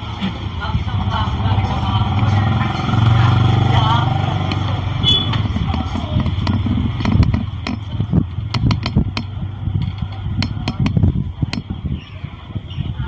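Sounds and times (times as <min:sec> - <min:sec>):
low rumble: 0:00.4 - 0:12.5.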